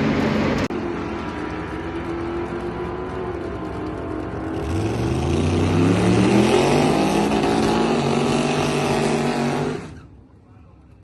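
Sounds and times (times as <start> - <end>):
race car engine accelerating: 0.0 - 10.0.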